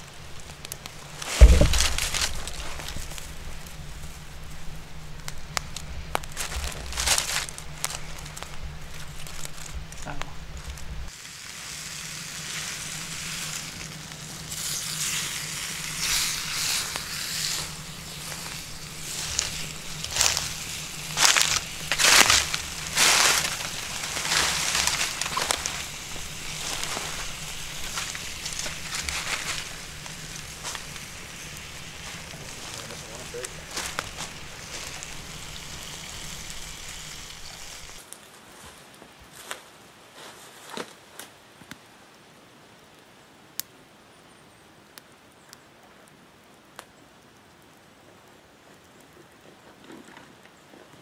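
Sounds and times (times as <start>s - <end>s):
campfire crackling and popping: 0.0s - 38.7s, 42.8s - 43.8s, 44.8s - 49.2s
dry crunching and rustling: 0.0s - 41.3s
faint steady hiss: 0.0s - 51.0s.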